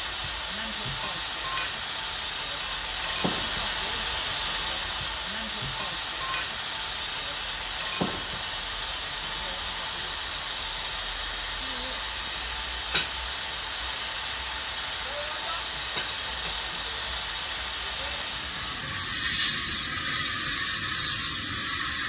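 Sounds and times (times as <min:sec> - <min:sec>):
model locomotive steam hiss: 0:00.0 - 0:22.0.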